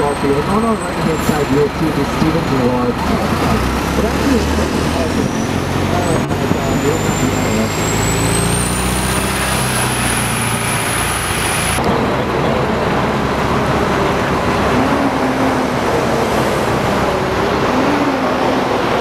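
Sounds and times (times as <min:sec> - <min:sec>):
bus engine running: 0:00.0 - 0:19.0
road noise: 0:00.0 - 0:19.0
street traffic: 0:00.0 - 0:19.0.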